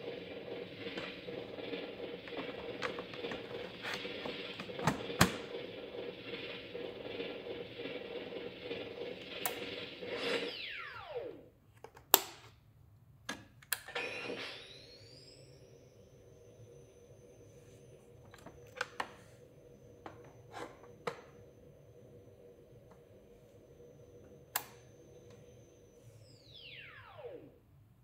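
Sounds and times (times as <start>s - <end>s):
electronic idle hum: 0.0s - 11.5s, 14.0s - 28.0s
electronic wind-down: 0.0s - 11.5s, 13.9s - 27.8s
rising power-up whine: 0.0s - 11.5s, 13.9s - 27.7s.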